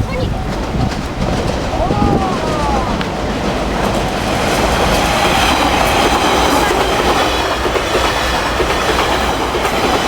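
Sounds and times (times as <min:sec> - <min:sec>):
train passing at speed: 0:00.0 - 0:10.0
wheels clickety-clack on rails: 0:00.0 - 0:10.0.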